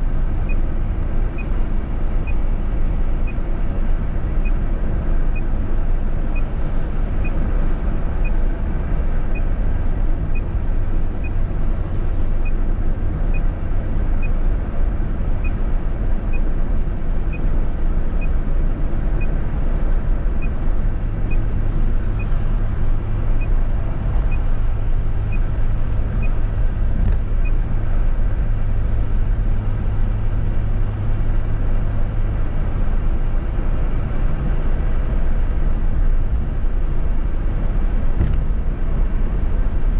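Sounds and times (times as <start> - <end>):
vehicle road and engine noise: 0.0 - 39.9.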